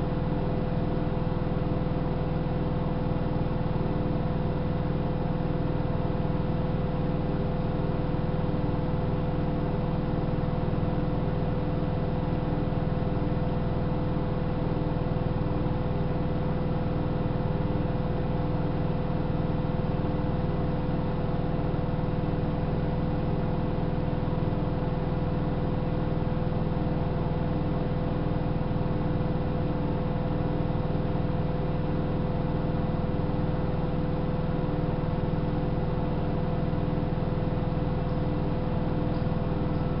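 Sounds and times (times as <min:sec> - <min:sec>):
washing machine motor hum and whine: 0:00.0 - 0:40.0.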